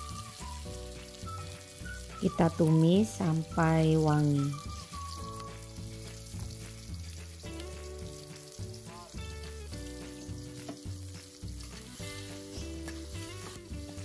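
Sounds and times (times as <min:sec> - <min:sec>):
background music with bass line: 0:00.0 - 0:14.0
spice paste sizzling in hot oil: 0:00.0 - 0:14.0.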